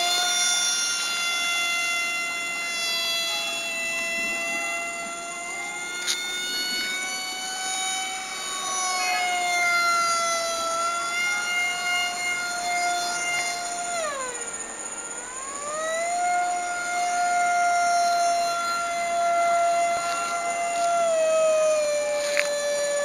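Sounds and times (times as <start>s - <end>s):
electric motor high-pitched scream: 0.0s - 23.0s.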